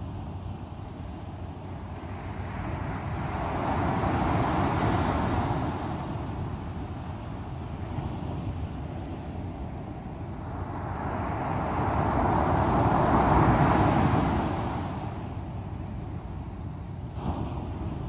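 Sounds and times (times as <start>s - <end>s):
sea waves breaking on shore: 1.0s - 18.0s.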